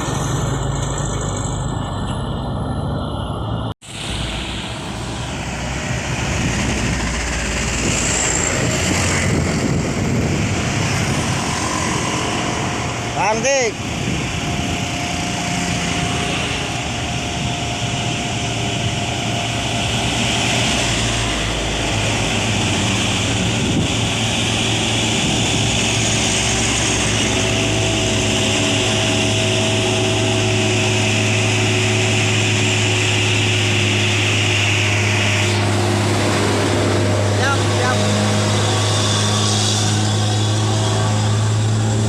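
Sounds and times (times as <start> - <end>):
truck diesel engine labouring: 0.0 - 42.0.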